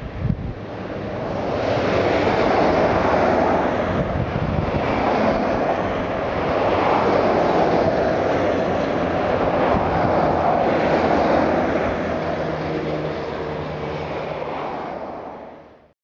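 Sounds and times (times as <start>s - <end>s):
road traffic passing: 0.0s - 15.9s.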